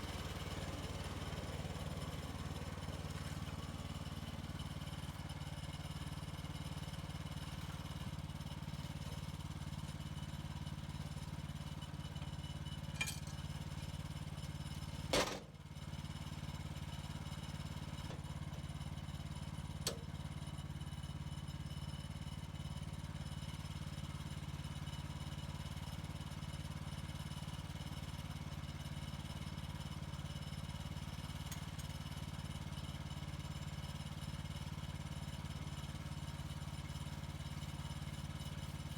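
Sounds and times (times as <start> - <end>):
sawmill gas engine running: 0.0 - 38.9.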